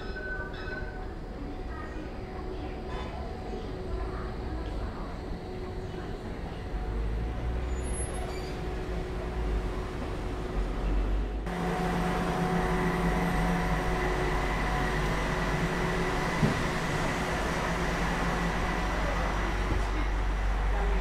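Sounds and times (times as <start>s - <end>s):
tram rolling with low rumble: 0.0s - 21.0s.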